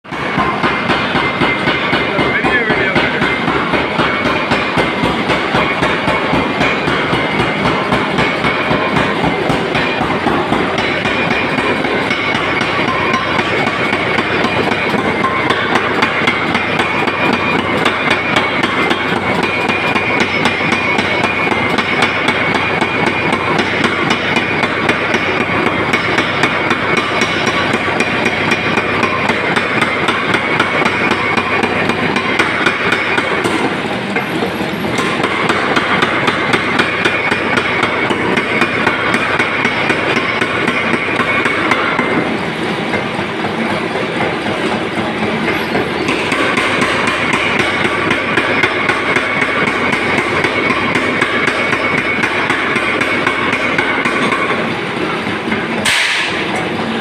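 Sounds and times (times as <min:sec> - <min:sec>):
power hammer pounding steel: 0:00.0 - 0:57.0.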